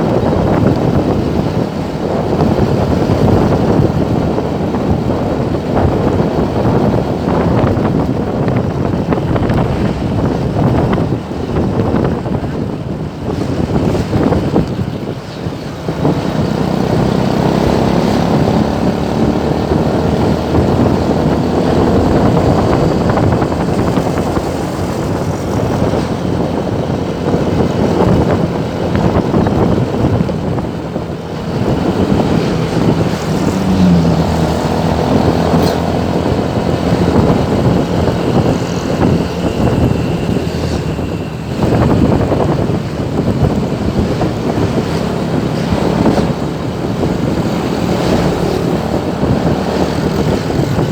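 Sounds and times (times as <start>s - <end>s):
motorcycle and car engines in traffic: 0.0s - 50.9s.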